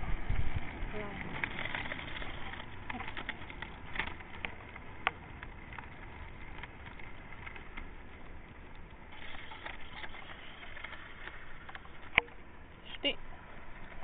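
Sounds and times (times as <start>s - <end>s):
skate wheels rolling on asphalt: 0.0s - 14.0s.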